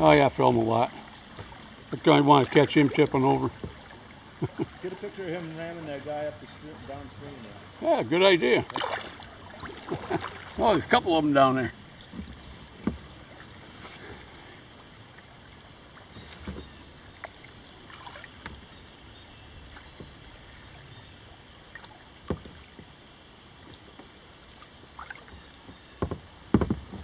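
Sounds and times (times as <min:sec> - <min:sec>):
paddle knocking: 0:00.0 - 0:18.9, 0:19.5 - 0:20.8, 0:21.7 - 0:24.2, 0:25.0 - 0:27.0
faint steady hiss: 0:00.0 - 0:27.0
paddle dipping in water: 0:00.0 - 0:27.0.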